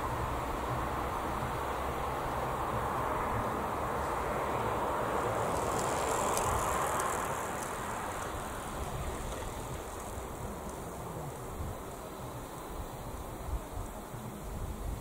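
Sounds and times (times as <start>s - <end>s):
train wheels rumbling on rails: 0.0s - 12.4s.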